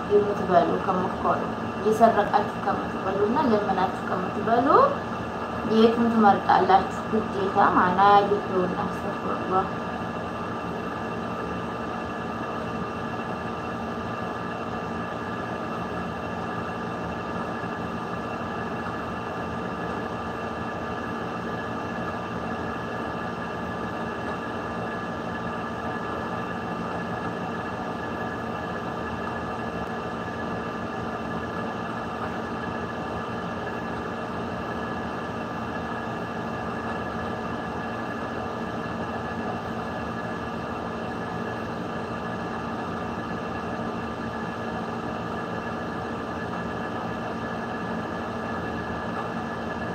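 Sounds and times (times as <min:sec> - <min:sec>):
steady machine hum: 0:00.0 - 0:49.9.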